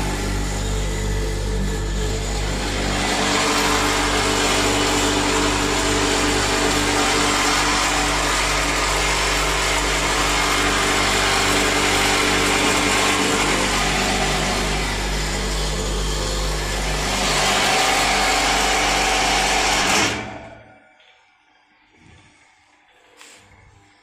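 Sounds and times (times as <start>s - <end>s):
electric motors humming and whirring: 0.0s - 24.0s.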